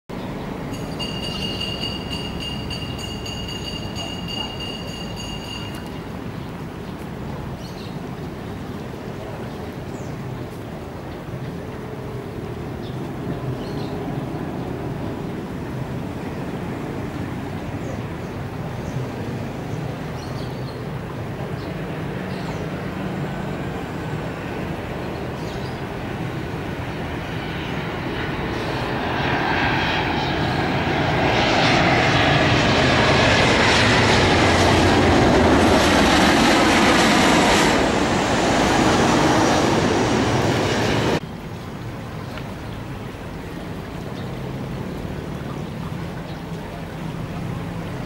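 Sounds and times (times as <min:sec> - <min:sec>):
airliner engine noise overhead: 0:00.1 - 0:48.0.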